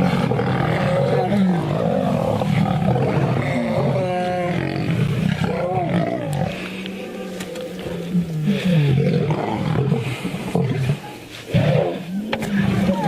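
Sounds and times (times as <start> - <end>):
lions roaring: 0.0 - 13.0.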